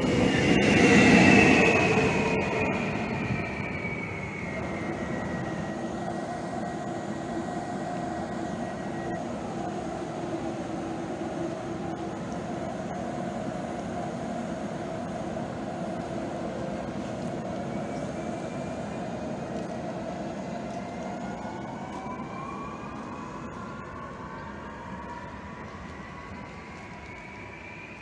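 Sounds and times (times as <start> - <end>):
electric train hum: 0.0 - 28.0
rising multi-tone motor whine: 0.0 - 28.0.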